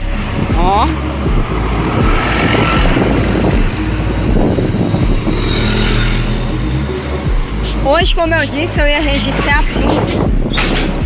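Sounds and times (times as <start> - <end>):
bus driving past: 0.0 - 9.5
motorcycle passing: 0.0 - 10.3
motor vehicles passing: 0.0 - 11.0
wind rumble on microphone: 0.0 - 11.0.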